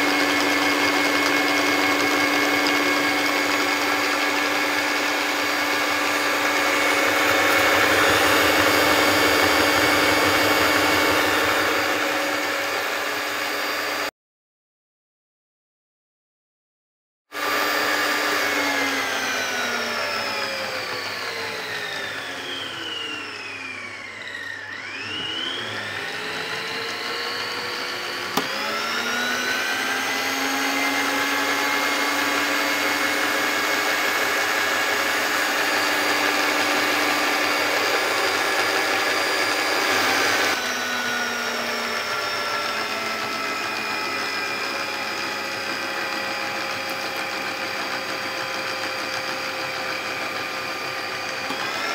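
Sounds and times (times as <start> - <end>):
food mixer motor whining: 0.0 - 14.1, 17.3 - 51.9.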